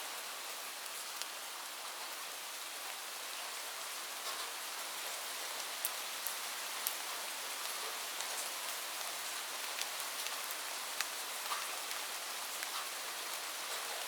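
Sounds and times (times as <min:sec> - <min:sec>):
raindrops ticking on a surface: 0:00.1 - 0:14.0.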